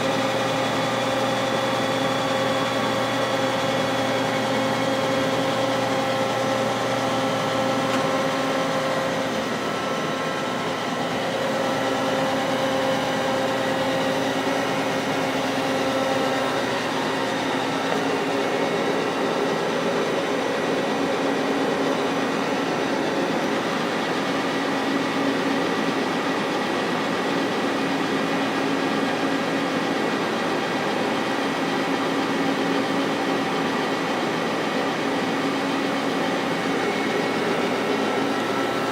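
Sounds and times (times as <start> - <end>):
lathe mechanical hum: 0.0 - 38.9.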